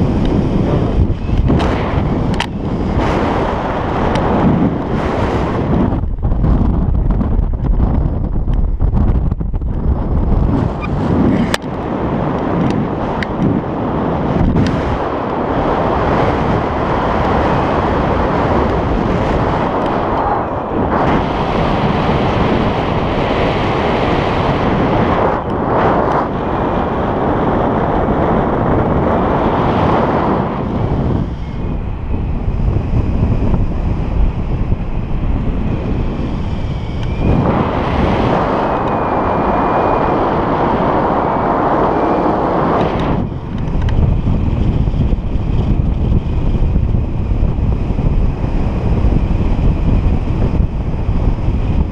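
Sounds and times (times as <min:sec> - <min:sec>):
wind noise on microphone: 0:00.0 - 0:51.9.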